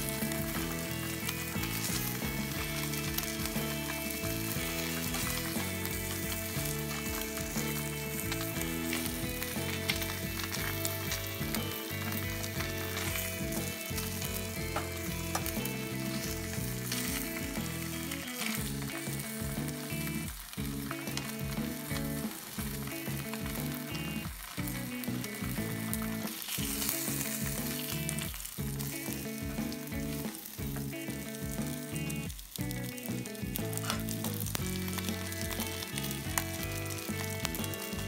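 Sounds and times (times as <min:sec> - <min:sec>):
fish skin sizzling in oil: 0:00.0 - 0:38.0.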